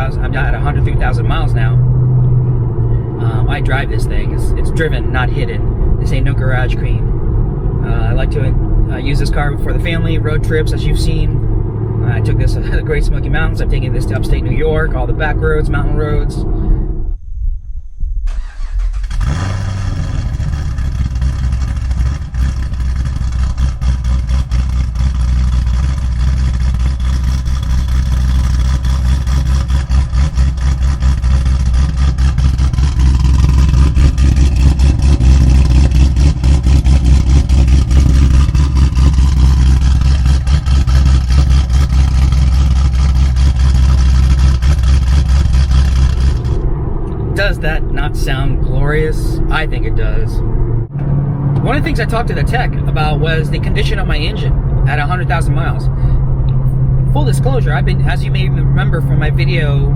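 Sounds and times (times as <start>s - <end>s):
car engine pulsing exhaust note: 0.0s - 59.9s.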